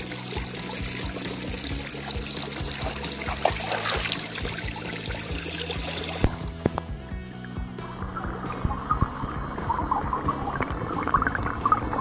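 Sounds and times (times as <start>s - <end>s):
water trickling into a pool: 0.0s - 6.8s, 7.4s - 12.0s
background music with low notes: 0.0s - 12.0s.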